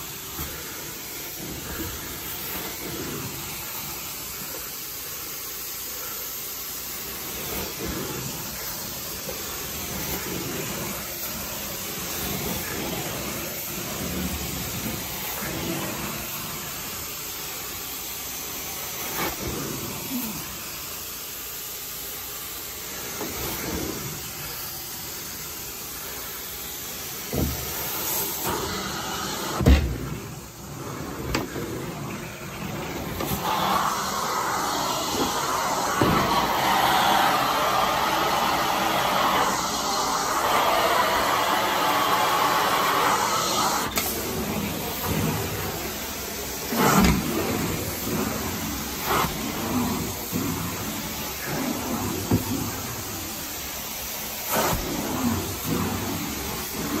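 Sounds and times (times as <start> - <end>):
carpet extraction wand hissing: 0.0 - 57.0.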